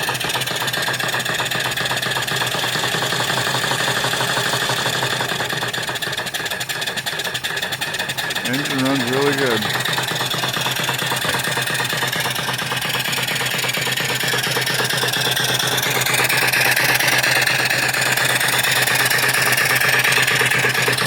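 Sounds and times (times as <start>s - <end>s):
steam engine beating: 0.0s - 21.0s.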